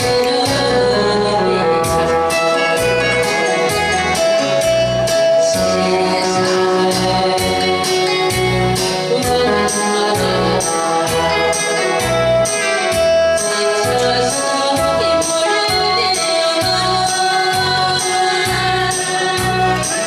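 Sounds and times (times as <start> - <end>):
backing track with beat and bass: 0.0 - 20.0
woman singing into microphone: 0.0 - 20.0.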